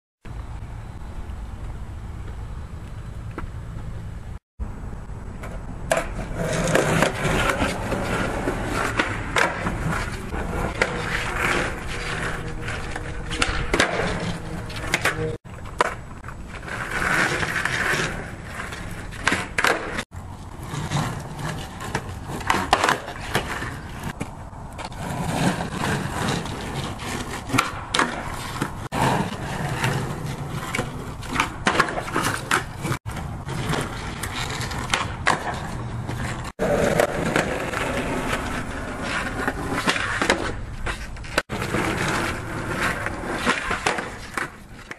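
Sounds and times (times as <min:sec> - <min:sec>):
skateboard wheels rolling on concrete: 0:00.2 - 0:44.9
skateboard clacks: 0:05.4 - 0:44.9.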